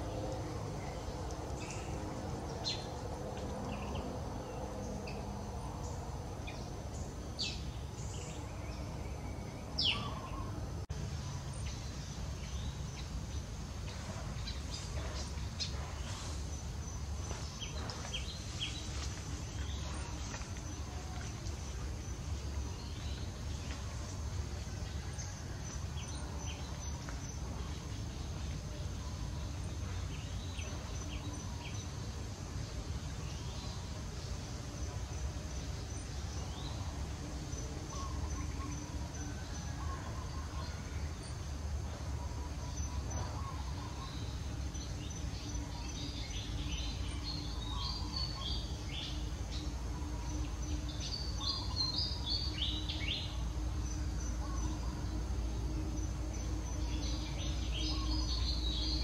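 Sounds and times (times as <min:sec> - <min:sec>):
outdoor background rumble: 0:00.0 - 0:59.0.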